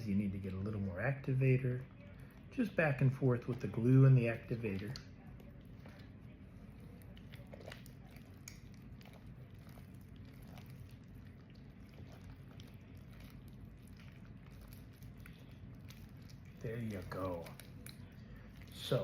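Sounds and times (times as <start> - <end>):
slime squelching: 0.0 - 19.0.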